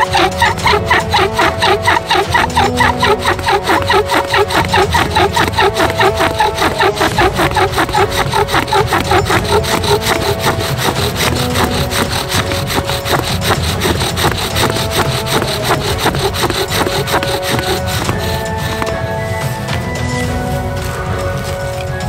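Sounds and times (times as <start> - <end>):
wooden spindle rasping on fireboard: 0.0 - 20.3.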